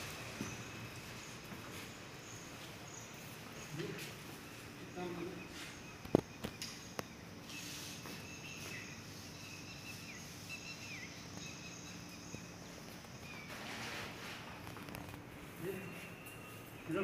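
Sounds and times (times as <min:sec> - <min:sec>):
birds chirping: 0:00.0 - 0:17.0
steady high hiss: 0:00.0 - 0:17.0.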